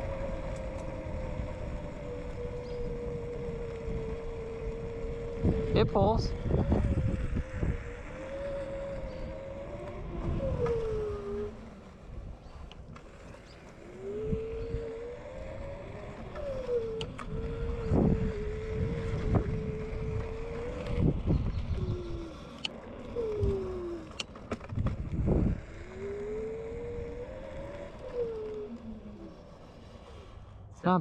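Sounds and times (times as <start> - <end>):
electric scooter motor whining: 0.0 - 31.0.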